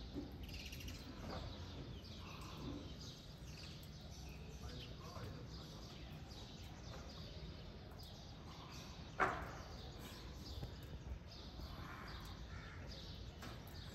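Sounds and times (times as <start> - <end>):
birds chirping: 0.0 - 13.9
outdoor background noise: 0.0 - 13.9.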